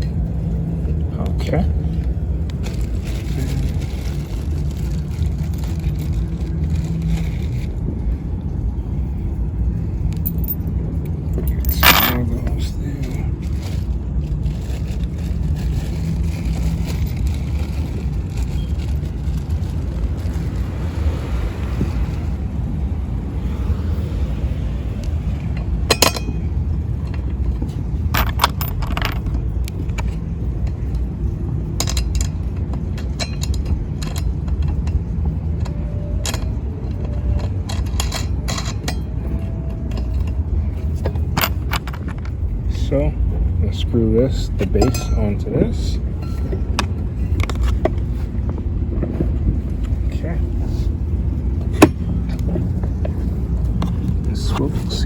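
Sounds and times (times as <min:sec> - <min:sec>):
low rumble: 0:00.0 - 0:55.0.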